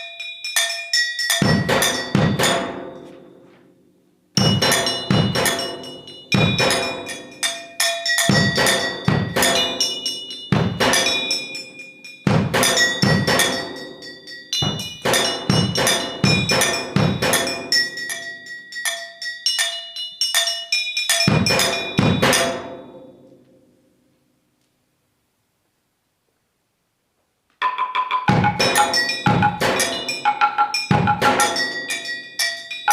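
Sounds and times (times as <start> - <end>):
percussion on struck metal: 0.0 - 3.4, 4.4 - 23.4, 27.6 - 32.9.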